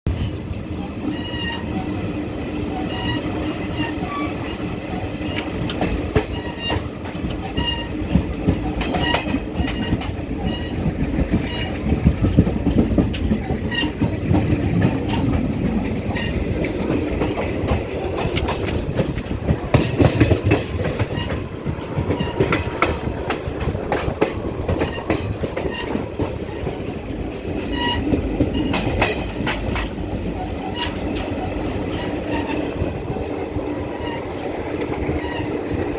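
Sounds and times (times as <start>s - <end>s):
train wheels rumbling on rails: 0.0s - 35.9s
track clicks and clatters: 0.1s - 35.9s.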